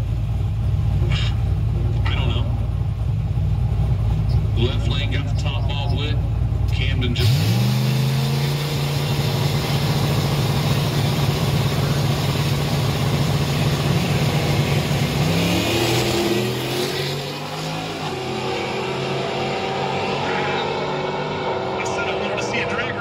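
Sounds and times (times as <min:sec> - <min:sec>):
engine drone: 0:00.0 - 0:23.0
race car engines revving: 0:00.0 - 0:23.0.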